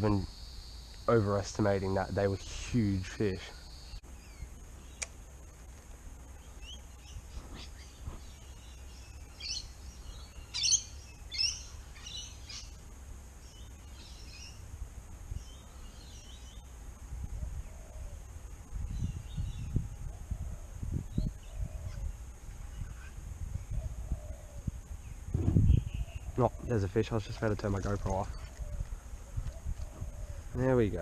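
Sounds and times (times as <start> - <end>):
birds chirping: 0.0 - 31.0
insect drone: 0.0 - 31.0.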